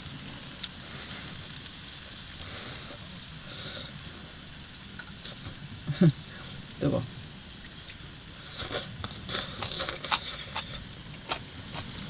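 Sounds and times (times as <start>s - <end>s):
mushrooms sizzling in a pan: 0.0s - 11.7s.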